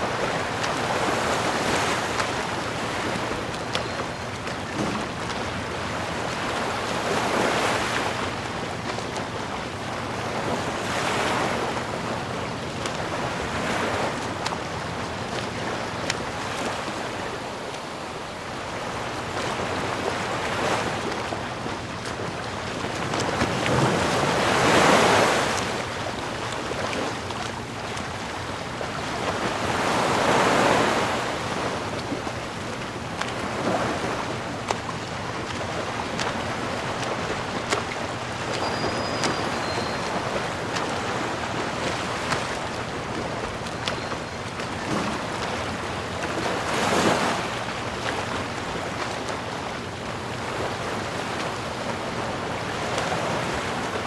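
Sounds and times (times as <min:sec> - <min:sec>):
sea waves breaking: 0:00.0 - 0:54.0
surf rushing: 0:00.0 - 0:54.0
wind: 0:00.0 - 0:54.0.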